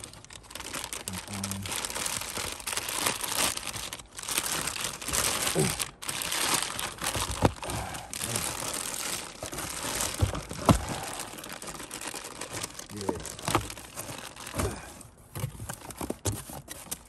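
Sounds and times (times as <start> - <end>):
cardboard rustling: 0.0 - 17.0
plastic wrapping crinkling: 0.0 - 17.0.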